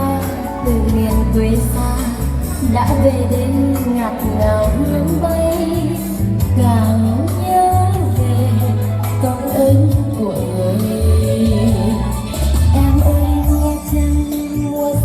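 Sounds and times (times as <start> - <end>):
heavy bass line: 0.0 - 14.3
woman singing: 0.0 - 15.0.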